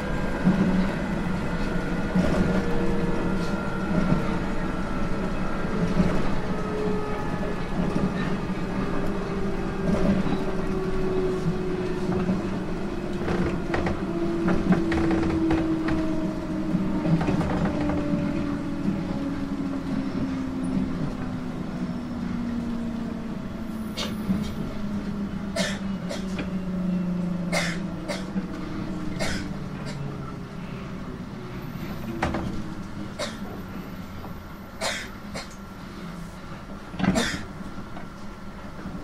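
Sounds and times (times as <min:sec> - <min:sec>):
electric train rumble: 0:00.0 - 0:39.0.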